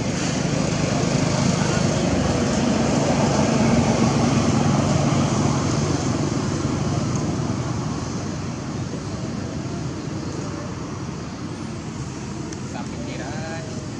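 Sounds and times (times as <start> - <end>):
traffic engine hum: 0.0 - 13.9.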